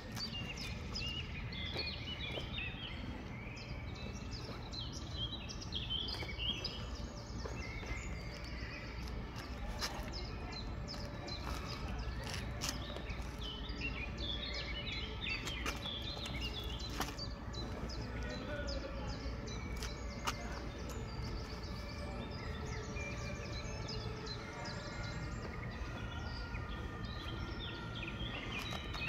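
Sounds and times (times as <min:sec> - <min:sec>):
low rumble of outdoor noise: 0:00.0 - 0:29.0
small birds chirping: 0:00.0 - 0:29.0.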